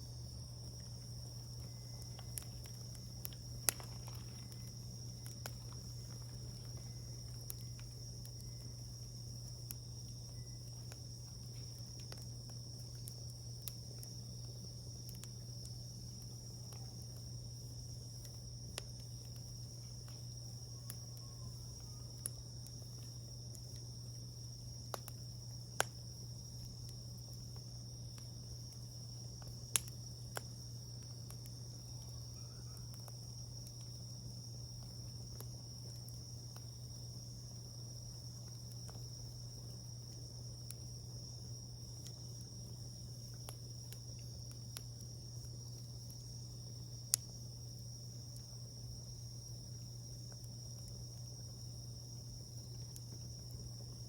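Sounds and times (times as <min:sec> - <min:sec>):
insects chirring: 0:00.0 - 0:54.0
campfire pops and cracks: 0:00.1 - 0:54.0.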